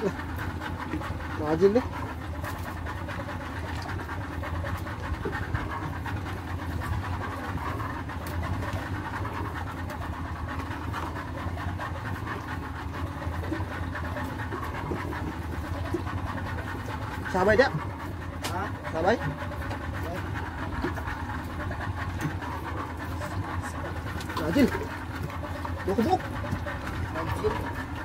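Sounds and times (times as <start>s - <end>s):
boat motor running: 0.0s - 28.0s.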